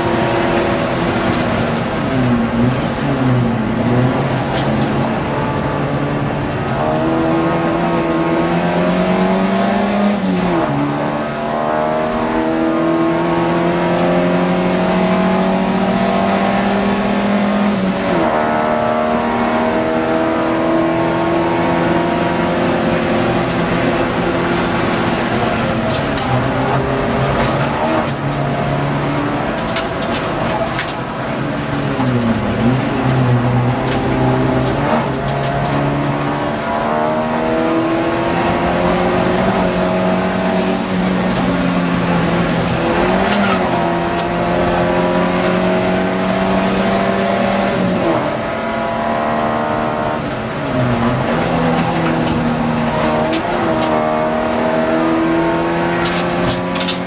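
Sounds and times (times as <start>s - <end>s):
race car engine from inside: 0.0s - 57.0s.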